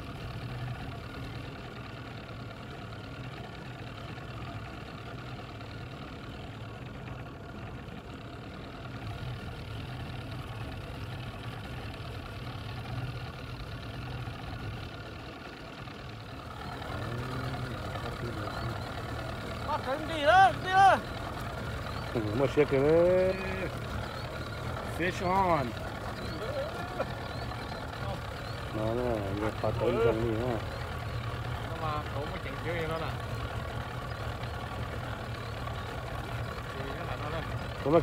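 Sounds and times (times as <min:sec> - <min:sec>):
outboard motor idling: 0:00.0 - 0:38.0.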